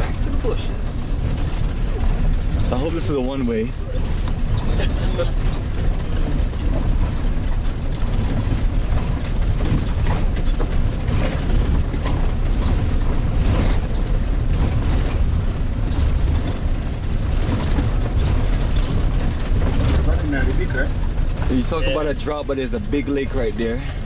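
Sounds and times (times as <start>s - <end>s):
bodywork rattling and knocking: 0.0s - 24.0s
engine and road rumble: 0.0s - 24.0s.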